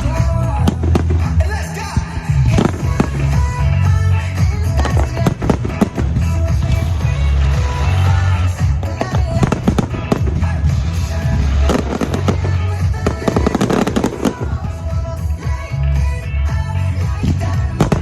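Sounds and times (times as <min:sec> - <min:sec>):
fireworks bangs and crackling: 0:00.0 - 0:15.7, 0:17.1 - 0:18.0
music with heavy bass beat: 0:00.0 - 0:18.0.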